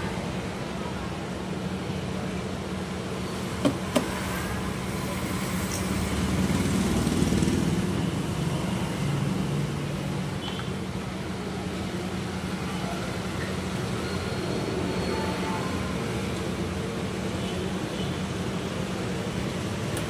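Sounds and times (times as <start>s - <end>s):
background traffic hum: 0.0s - 20.0s.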